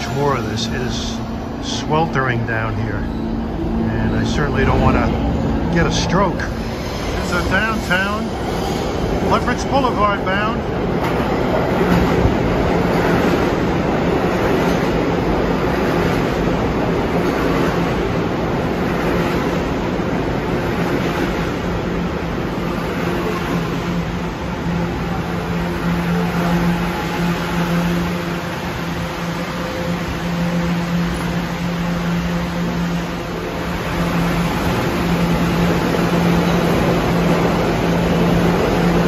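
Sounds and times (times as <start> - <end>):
train wheel and motor noise: 0.0 - 39.0.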